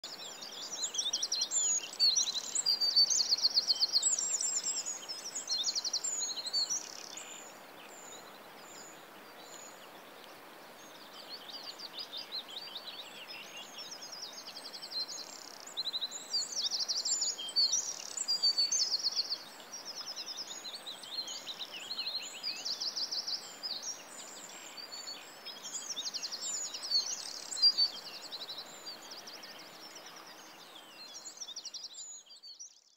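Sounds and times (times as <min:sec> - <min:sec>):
faint steady hiss: 0:00.0 - 0:32.9
songbirds trilling and chirping: 0:00.0 - 0:32.9.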